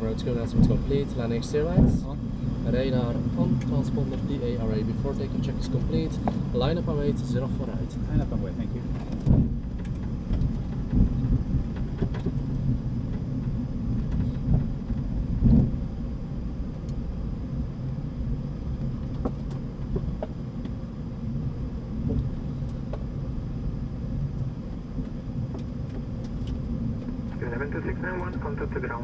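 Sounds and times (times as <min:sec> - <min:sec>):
aircraft engines low rumble: 0:00.0 - 0:29.0.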